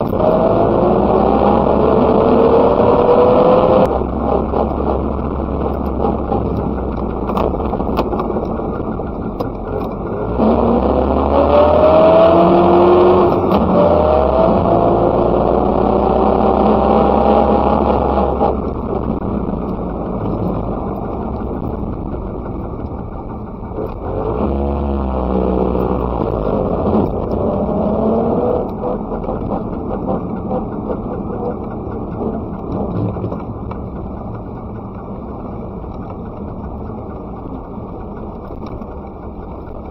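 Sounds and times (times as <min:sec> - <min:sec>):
small two-stroke car engine: 0:00.0 - 0:39.9.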